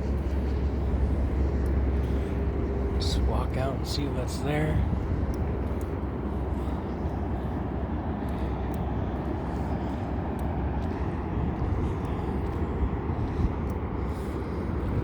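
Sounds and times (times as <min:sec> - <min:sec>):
faint light ticks: 0:00.0 - 0:14.4
wind on microphone: 0:00.0 - 0:15.0.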